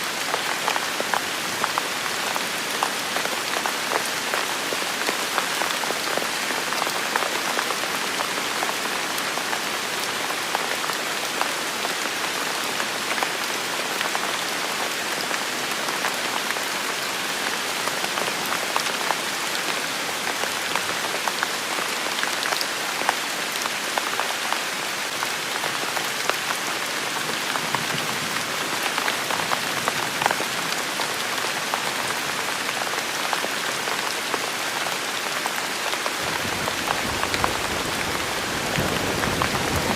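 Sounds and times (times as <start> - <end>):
rain pattering on hard surfaces: 0.1 - 39.9.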